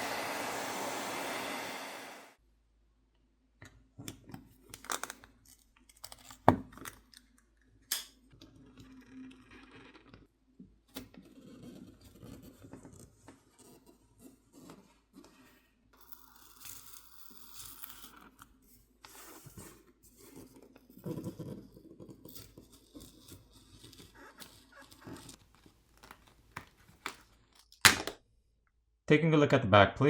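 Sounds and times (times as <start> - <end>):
plastic scraping and crackling: 4.0 - 28.2.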